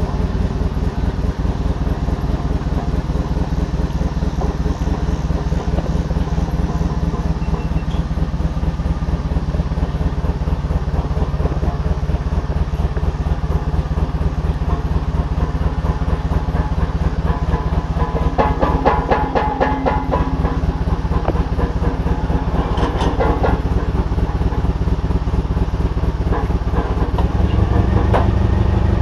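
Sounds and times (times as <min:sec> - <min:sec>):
machine engine running low: 0:00.0 - 0:29.0.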